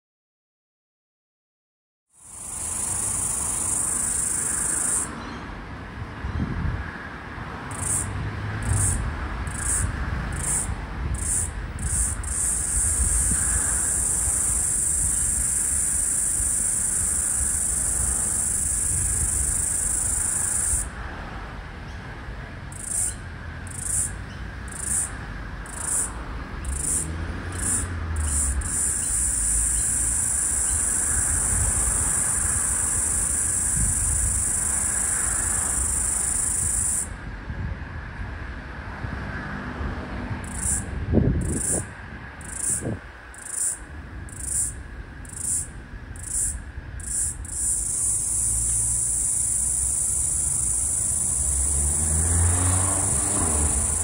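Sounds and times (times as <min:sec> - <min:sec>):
cicada buzzing: 0:02.1 - 0:05.3, 0:07.6 - 0:21.3, 0:22.7 - 0:37.2, 0:40.4 - 0:54.0
low traffic rumble: 0:02.1 - 0:54.0.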